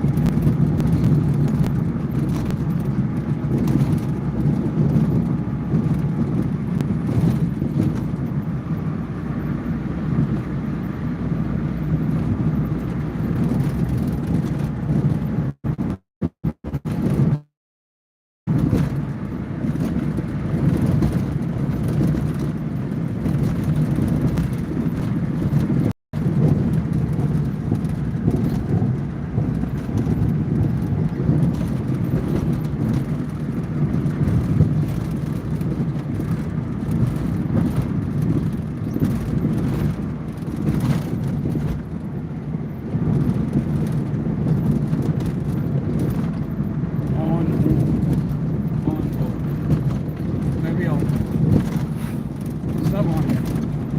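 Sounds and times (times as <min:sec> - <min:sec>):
car road and engine rumble: 0:00.0 - 0:17.5, 0:18.5 - 0:53.9.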